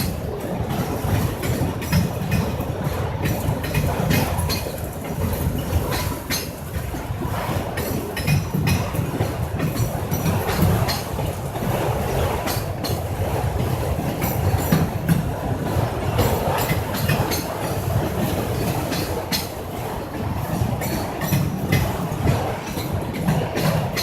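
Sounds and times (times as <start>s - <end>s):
train wheels rumbling on rail: 0.0s - 24.0s
wheels clicking over rail joints: 0.0s - 24.0s.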